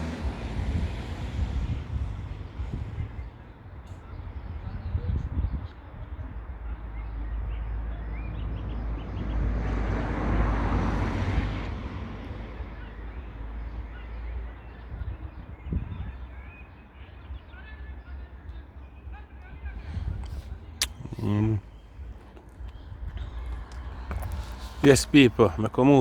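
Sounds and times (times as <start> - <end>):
car passing: 0.0 - 4.6, 6.6 - 15.6, 16.2 - 26.0.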